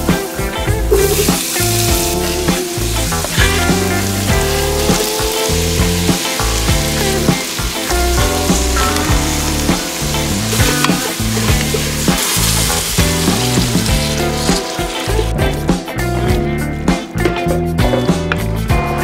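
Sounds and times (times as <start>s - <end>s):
vegetables sizzling in a pot: 0.0s - 15.6s
background music: 0.0s - 19.0s.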